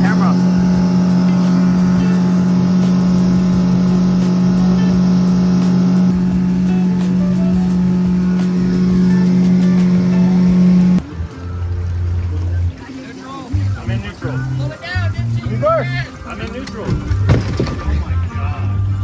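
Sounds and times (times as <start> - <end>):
motorboat engine droning: 0.0 - 18.4.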